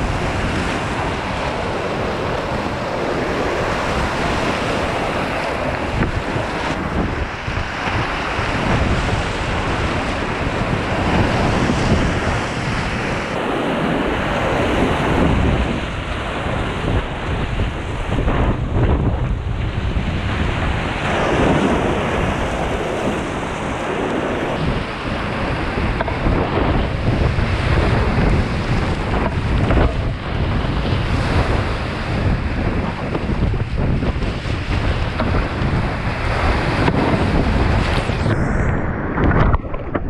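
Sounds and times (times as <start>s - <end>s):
whitewater rushing and splashing: 0.0s - 39.6s
wind buffeting microphone: 0.0s - 40.0s.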